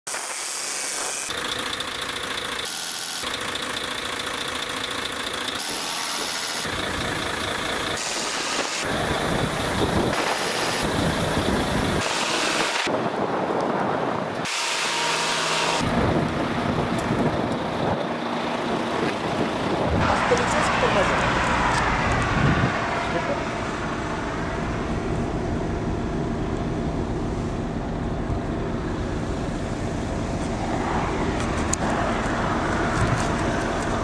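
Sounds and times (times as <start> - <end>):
car engine and road noise: 0.1 - 34.0.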